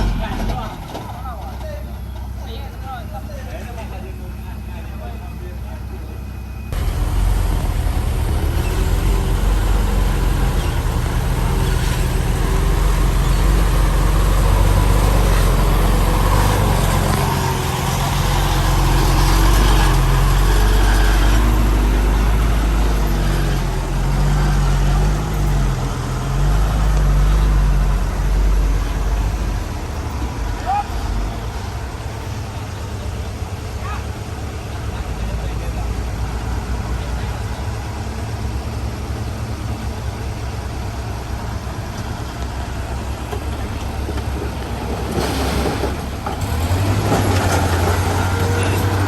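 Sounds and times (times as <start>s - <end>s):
heavy diesel engine rumbling: 0.0s - 49.0s.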